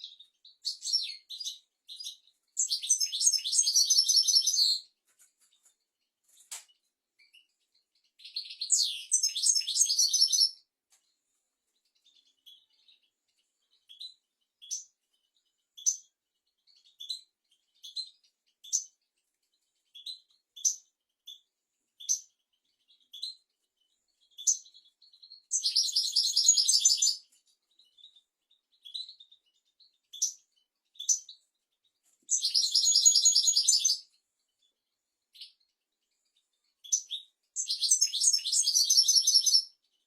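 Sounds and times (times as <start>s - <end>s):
bird twittering chirps: 0.0s - 5.7s, 6.3s - 10.6s, 11.8s - 40.0s.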